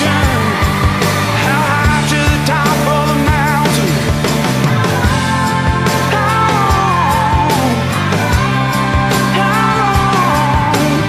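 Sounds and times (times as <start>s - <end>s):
blues-rock band playing: 0.0s - 11.0s
person singing: 0.0s - 11.0s
sliding lead guitar line: 0.0s - 11.0s.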